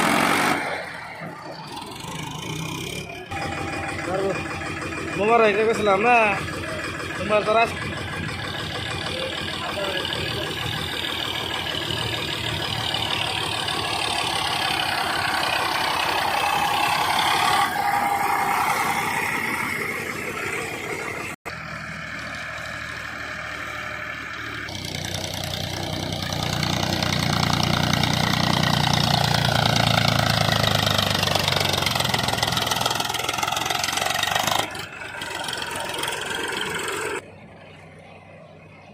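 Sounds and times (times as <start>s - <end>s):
tractor diesel engines running: 0.0s - 38.9s.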